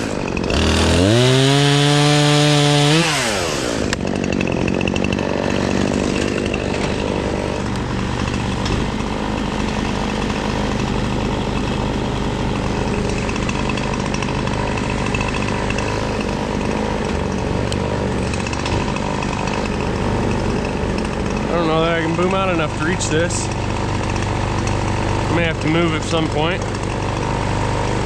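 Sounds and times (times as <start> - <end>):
small gasoline engine running: 0.0 - 28.0.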